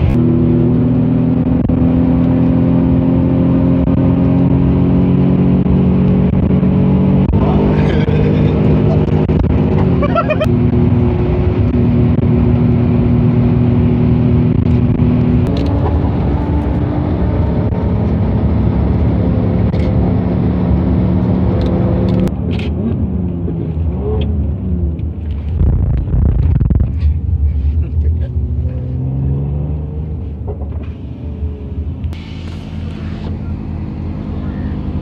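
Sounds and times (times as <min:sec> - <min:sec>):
car engine drone: 0:00.0 - 0:35.0
road and wind noise: 0:00.0 - 0:35.0.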